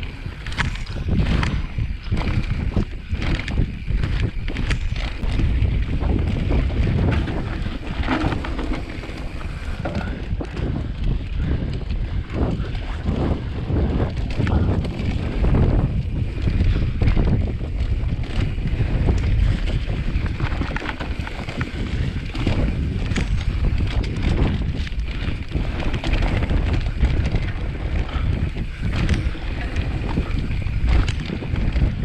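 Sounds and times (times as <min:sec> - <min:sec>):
mountain bike rattling: 0:00.0 - 0:32.0
wind buffeting microphone: 0:00.0 - 0:32.0.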